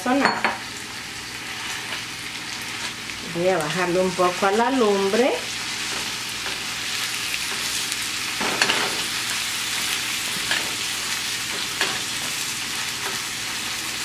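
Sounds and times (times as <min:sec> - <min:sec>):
meat and onion sizzling in a pan: 0:00.0 - 0:14.0.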